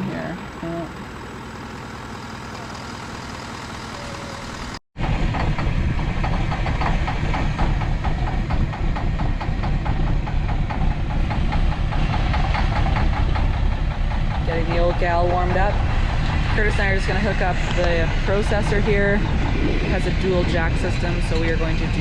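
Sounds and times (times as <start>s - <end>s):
engine idling with fast knock: 0.1s - 19.5s.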